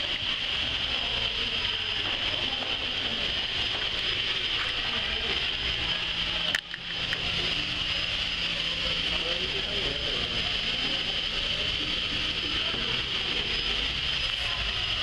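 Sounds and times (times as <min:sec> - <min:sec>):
low hum: 0:00.0 - 0:15.0
steam hissing: 0:00.0 - 0:15.0.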